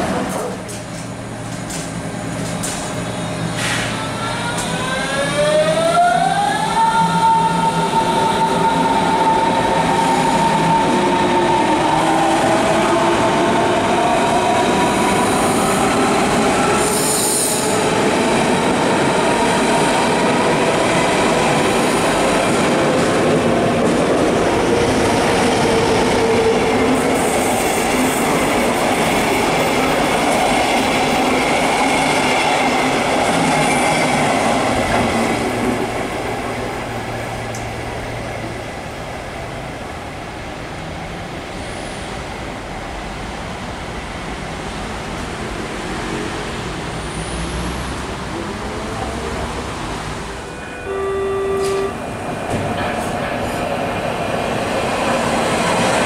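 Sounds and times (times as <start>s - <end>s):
train passing on next track: 0.0s - 56.0s.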